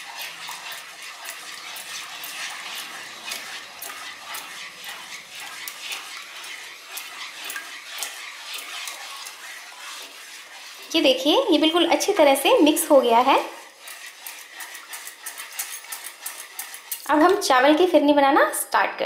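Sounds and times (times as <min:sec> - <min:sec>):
wooden spatula scraping pan: 0:00.0 - 0:18.1
batter swishing in pan: 0:00.0 - 0:18.2.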